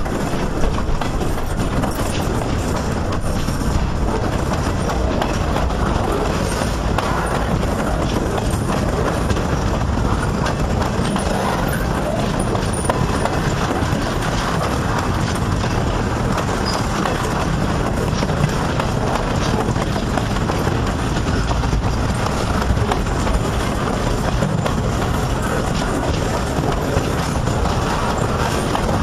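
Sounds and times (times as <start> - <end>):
rail clacks: 0.0 - 29.0
train wheels rumbling on rails: 0.0 - 29.0.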